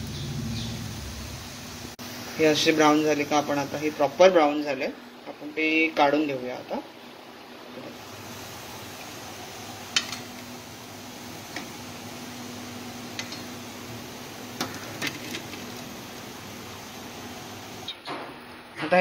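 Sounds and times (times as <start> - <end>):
hot oil frying hiss: 0.0 - 18.0.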